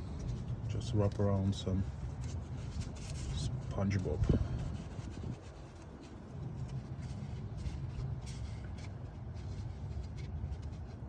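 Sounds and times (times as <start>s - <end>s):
sponge rustling and scraping: 0.0s - 11.0s.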